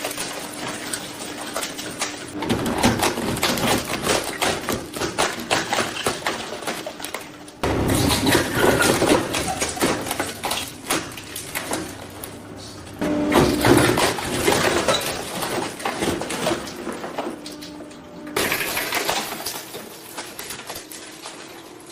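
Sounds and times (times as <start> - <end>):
machine low hum: 0.0 - 21.9
shredder crunching plastic: 0.0 - 21.9.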